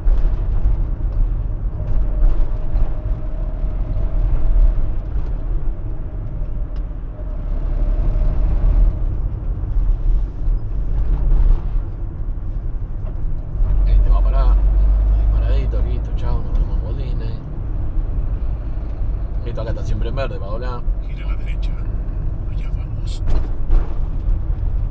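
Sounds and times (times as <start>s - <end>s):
van engine and road rumble: 0.0s - 24.9s.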